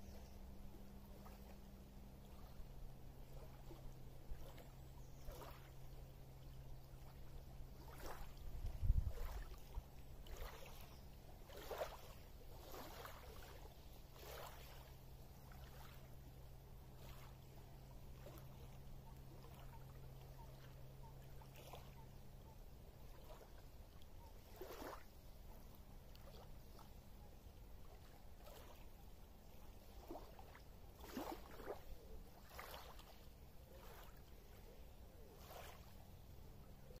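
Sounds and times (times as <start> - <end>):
faint low hum: 0.0 - 37.0
wavelets lapping on pebbles: 1.1 - 20.8, 23.0 - 27.0, 27.6 - 34.4, 35.3 - 36.0.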